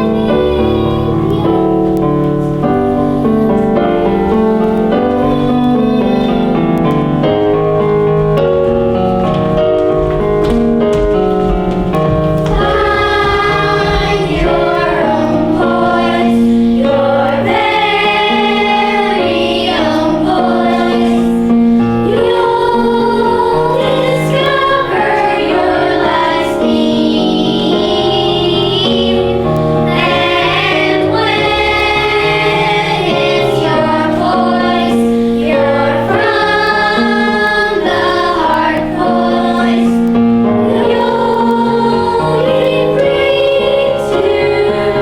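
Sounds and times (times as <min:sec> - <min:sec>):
choir singing: 0:00.0 - 0:45.0
piano accompaniment: 0:00.0 - 0:45.0.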